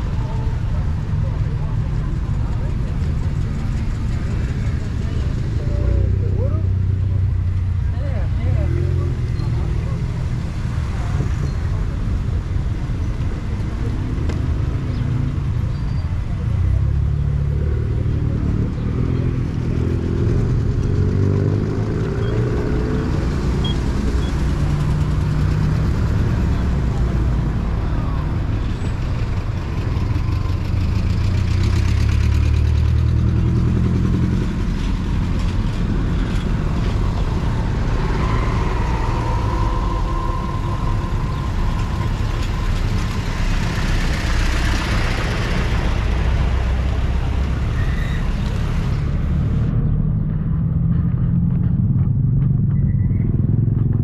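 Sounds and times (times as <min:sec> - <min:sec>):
vehicle engines in slow traffic: 0:00.0 - 0:54.0.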